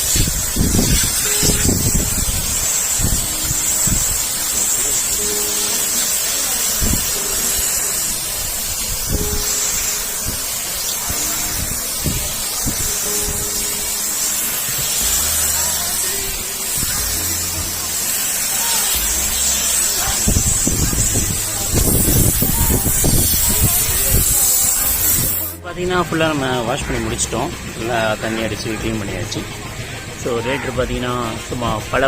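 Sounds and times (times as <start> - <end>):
water jet spraying: 0.0 - 32.0.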